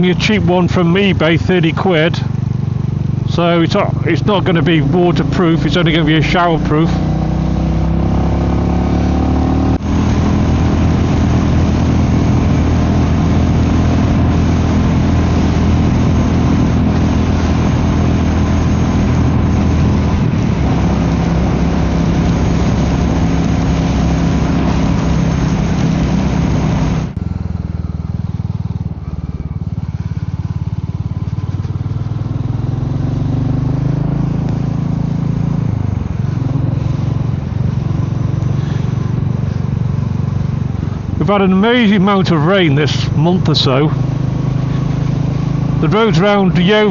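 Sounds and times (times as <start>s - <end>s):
motorcycle engine running: 0.0s - 46.9s
wind and road rush: 0.0s - 46.9s.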